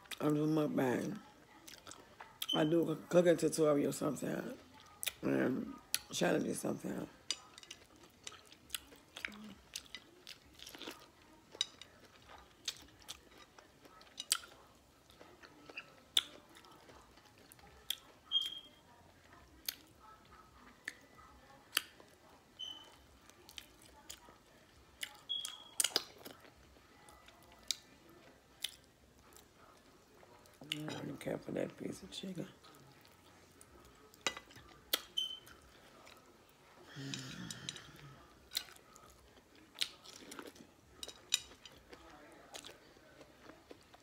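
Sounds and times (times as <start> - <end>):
chewing corn on the cob: 1.3 - 2.6, 7.4 - 30.9, 32.6 - 44.0.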